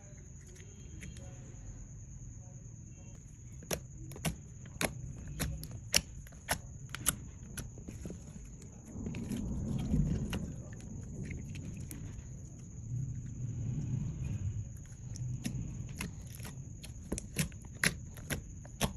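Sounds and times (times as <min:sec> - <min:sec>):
low rumbling handling noise: 0:03.0 - 0:18.9.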